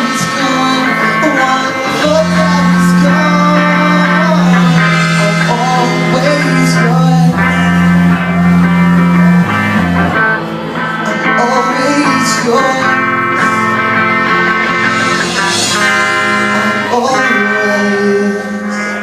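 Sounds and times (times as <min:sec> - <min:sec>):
bass: 0:00.0 - 0:19.0
person singing: 0:00.0 - 0:19.0
rock song with guitar: 0:00.0 - 0:19.0.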